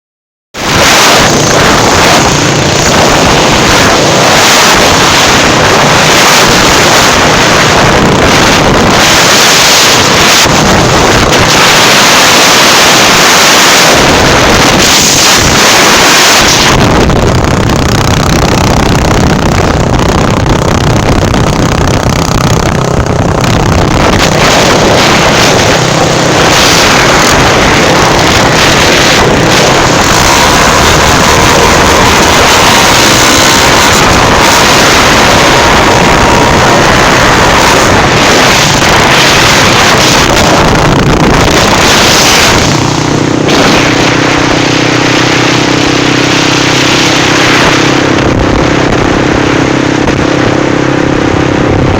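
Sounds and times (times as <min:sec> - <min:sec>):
motorcycle engine running: 0:00.6 - 0:51.9
wind noise on microphone: 0:00.6 - 0:51.9.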